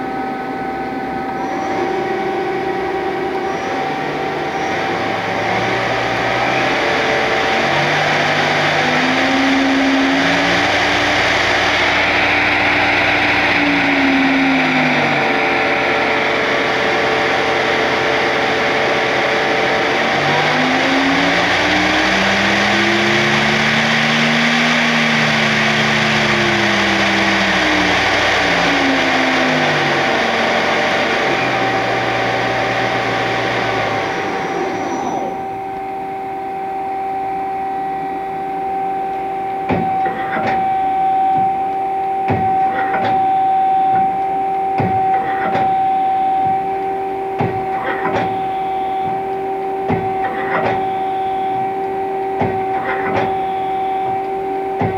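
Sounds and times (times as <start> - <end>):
lathe spindle running: 0.0 - 54.9
two-tone machine hum: 0.0 - 54.9.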